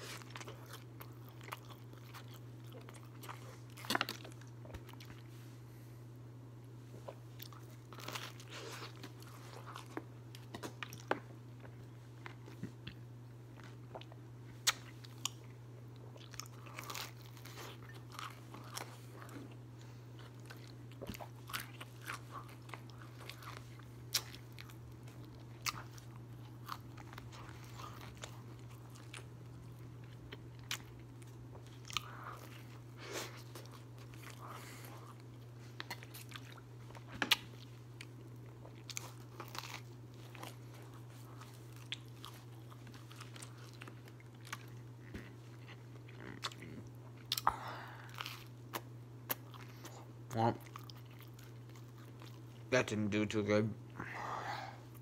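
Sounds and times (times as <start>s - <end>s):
person chewing crunchy food: 0.0s - 5.3s, 7.0s - 52.7s.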